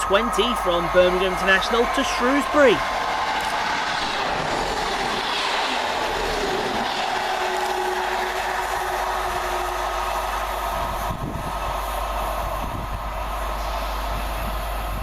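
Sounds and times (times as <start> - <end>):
diesel train passing: 0.0 - 15.0.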